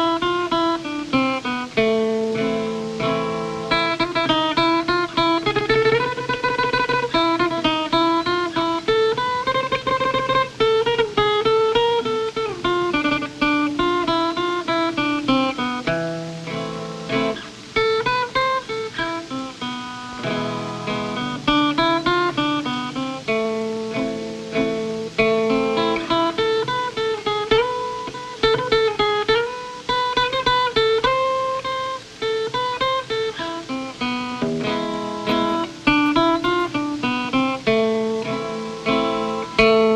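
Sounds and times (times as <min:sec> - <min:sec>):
acoustic guitar melody: 0:00.0 - 0:39.9.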